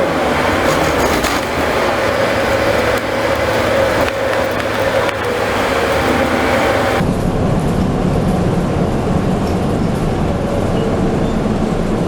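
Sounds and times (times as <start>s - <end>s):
bus engine and tyres drone: 0.0s - 12.0s.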